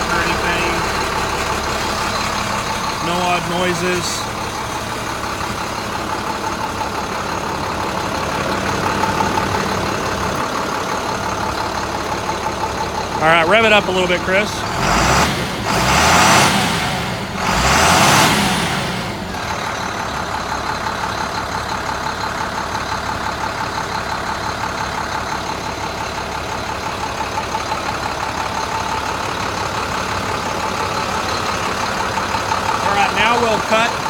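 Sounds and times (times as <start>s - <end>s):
diesel truck engine revving and idling: 0.0s - 34.0s.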